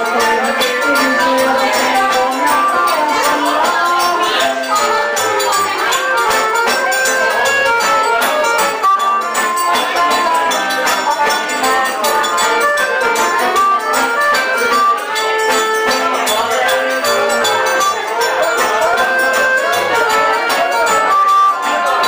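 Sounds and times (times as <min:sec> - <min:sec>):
accordion: 0:00.0 - 0:22.0
acoustic guitar: 0:00.0 - 0:22.0
hand percussion: 0:00.0 - 0:22.0.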